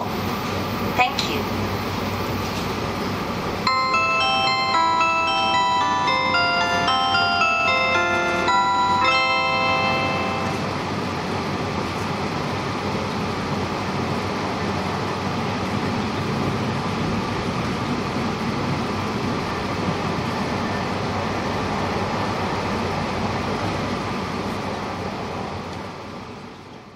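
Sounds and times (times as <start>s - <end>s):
train wheels on rails: 0.0s - 26.9s.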